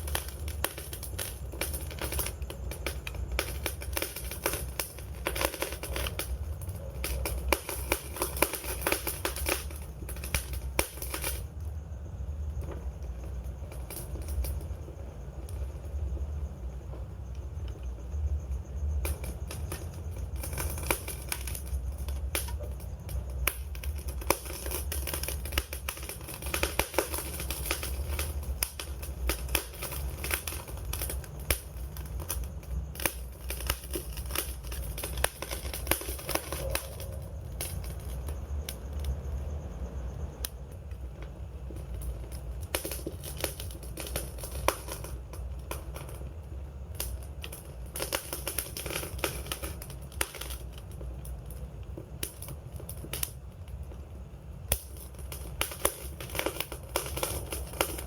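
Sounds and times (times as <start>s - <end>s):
low steady rumble: 0.0s - 58.0s
wood fire crackling and popping: 0.0s - 58.0s.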